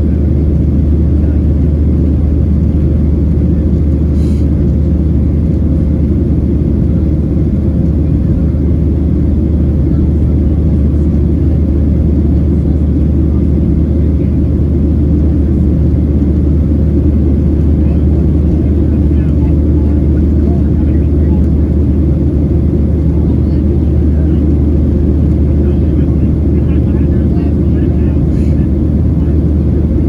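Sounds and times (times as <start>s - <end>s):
aircraft cabin rumble: 0.0s - 30.0s.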